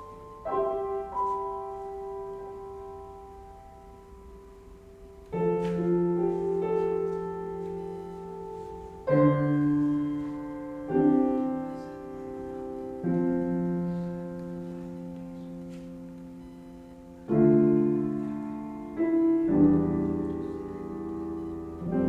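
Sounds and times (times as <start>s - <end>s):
piano playing slow chords: 0.0s - 22.0s.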